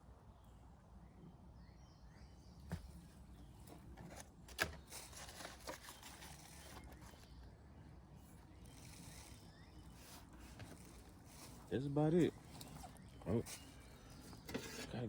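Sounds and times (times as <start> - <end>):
faint bird chirps: 0.0 - 3.8, 4.8 - 15.0.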